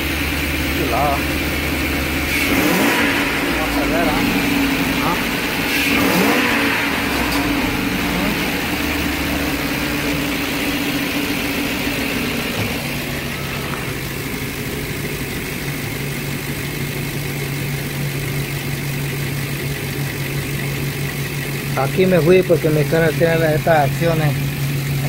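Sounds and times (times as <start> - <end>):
van engine idling: 0.0 - 25.0.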